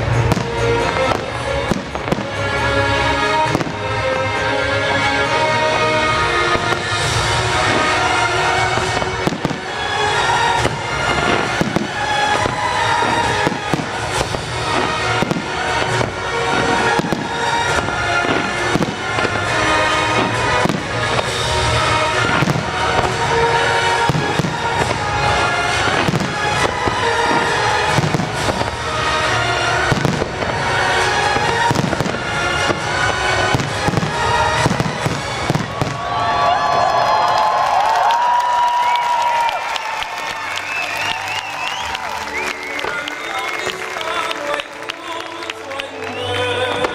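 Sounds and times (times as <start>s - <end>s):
fireworks bangs and crackles: 0.0s - 46.9s
music playing: 0.0s - 46.9s.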